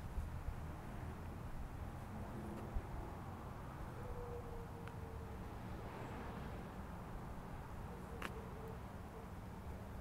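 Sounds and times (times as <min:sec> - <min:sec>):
faint outdoor rumble: 0:00.0 - 0:10.0.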